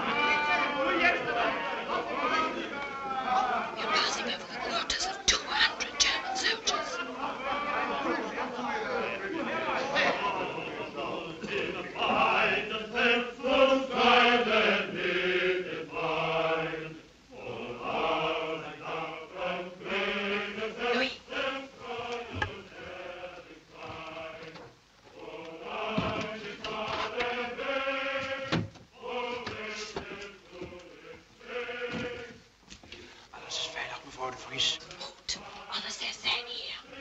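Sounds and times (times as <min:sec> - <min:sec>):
voices chanting: 0:00.0 - 0:37.0.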